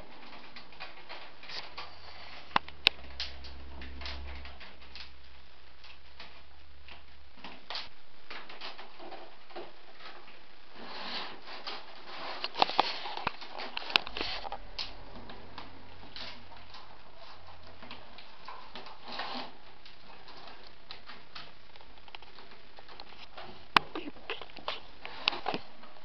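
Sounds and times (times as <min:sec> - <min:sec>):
willow rods rustling and creaking: 0:00.0 - 0:26.0.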